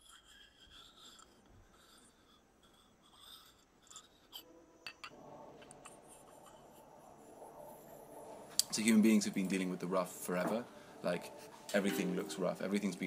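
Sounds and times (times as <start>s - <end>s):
faint scratching and rubbing: 0.0s - 11.7s.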